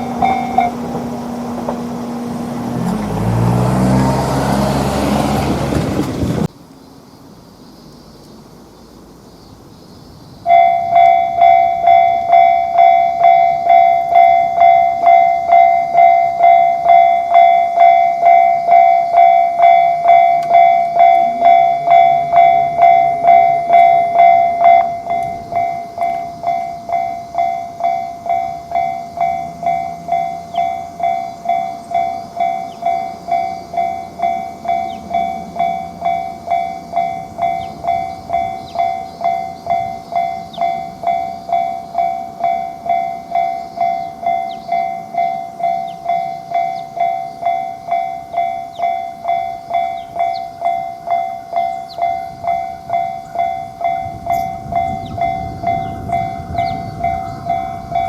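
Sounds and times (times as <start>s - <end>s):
level crossing alarm bell: 0.0s - 4.8s, 10.5s - 58.0s.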